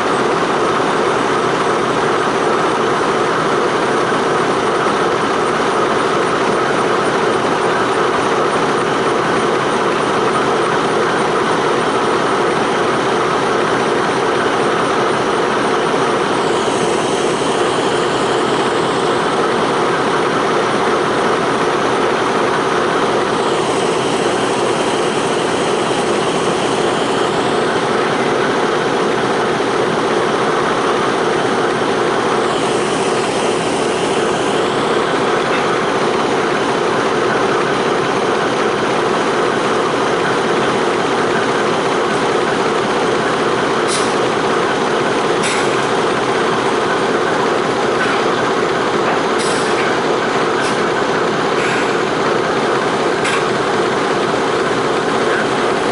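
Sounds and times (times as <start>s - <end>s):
heavy engine running: 0.0s - 55.9s.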